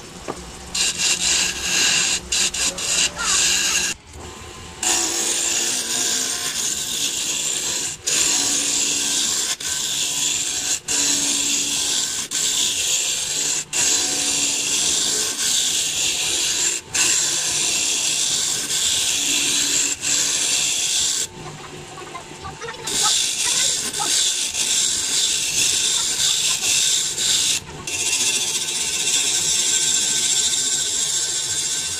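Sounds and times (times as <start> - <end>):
wood lathe scraping hiss: 0.7 - 4.0, 4.8 - 31.9.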